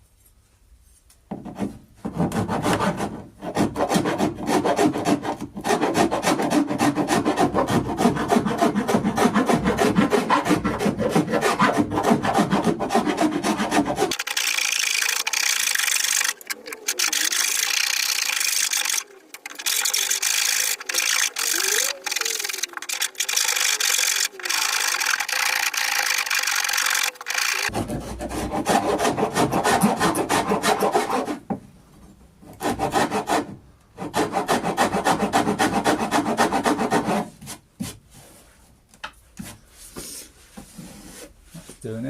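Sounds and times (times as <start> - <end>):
file rasping on wood: 1.5 - 14.2, 15.3 - 31.4, 32.5 - 37.5.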